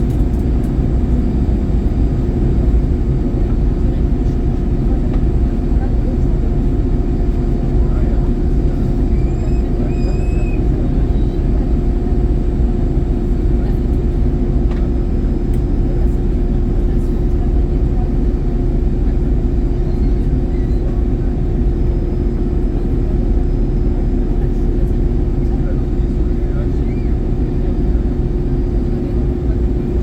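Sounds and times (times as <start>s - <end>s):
airplane cabin rumble: 0.0s - 30.0s
constant hum: 0.0s - 30.0s.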